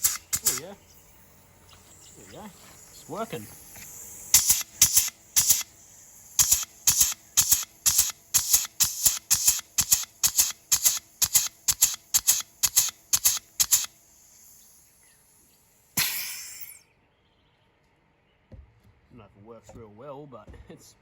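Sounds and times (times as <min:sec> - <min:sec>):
air grease gun hissing: 0:00.0 - 0:16.8.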